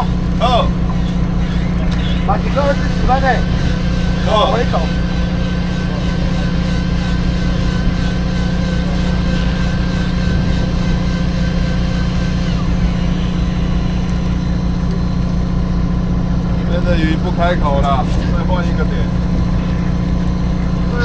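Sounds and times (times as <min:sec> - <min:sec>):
boat engine droning: 0:00.0 - 0:21.0
thin steady whine: 0:00.0 - 0:21.0.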